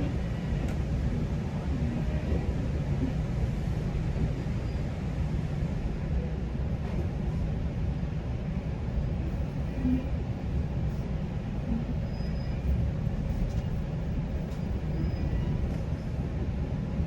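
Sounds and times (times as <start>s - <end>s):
train rumble inside coach: 0.0s - 17.0s.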